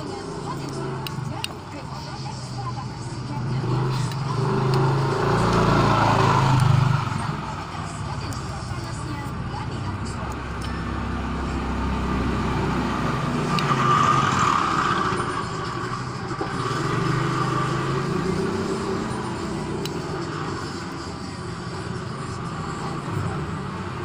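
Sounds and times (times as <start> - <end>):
motor traffic rumble: 0.0 - 24.0.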